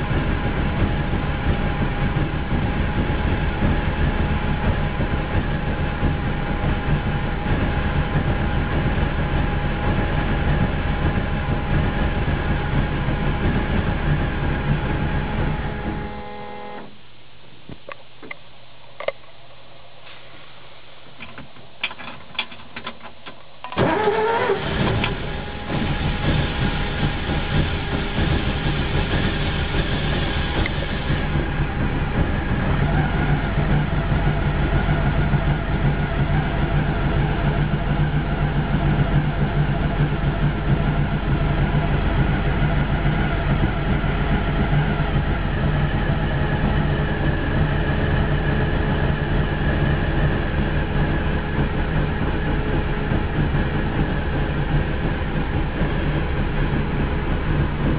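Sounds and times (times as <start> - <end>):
engine cranking and idling: 0.0 - 17.1, 21.2 - 57.9.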